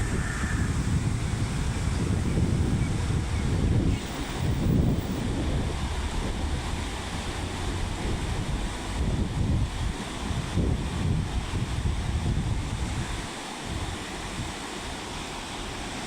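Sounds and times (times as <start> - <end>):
wind buffeting microphone: 0.0 - 14.8
river rushing: 0.0 - 16.0.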